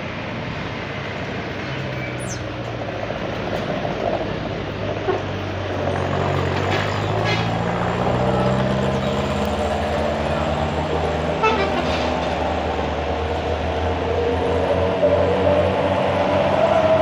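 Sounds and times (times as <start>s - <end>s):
traffic noise: 0.0s - 17.0s
diesel truck engines in low gear: 0.8s - 17.0s.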